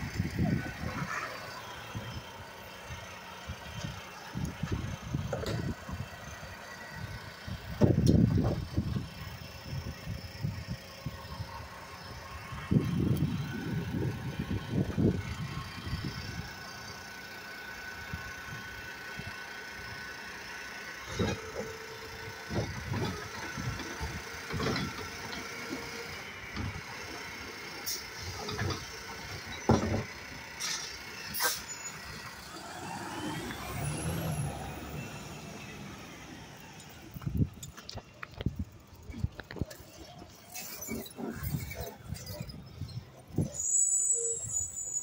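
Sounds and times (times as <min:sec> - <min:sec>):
garbage truck engine running: 0:00.0 - 0:45.0.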